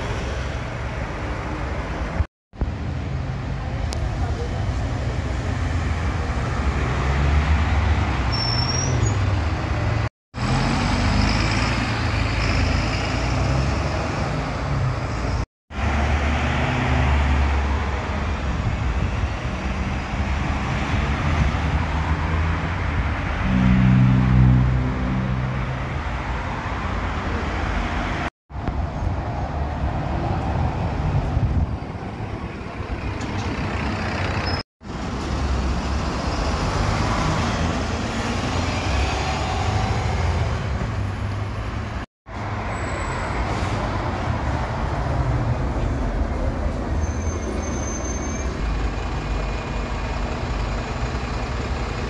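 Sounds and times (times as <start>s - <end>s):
cars passing: 0.0s - 47.6s
bus engines running: 0.0s - 52.0s.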